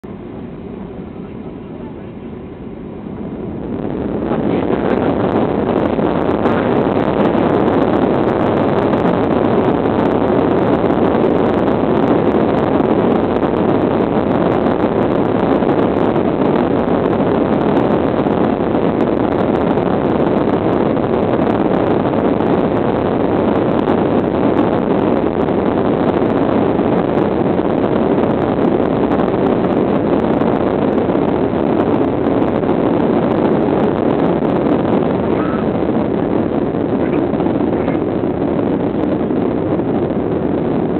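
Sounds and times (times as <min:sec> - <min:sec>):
airliner engine and air rush: 0:00.0 - 0:40.9.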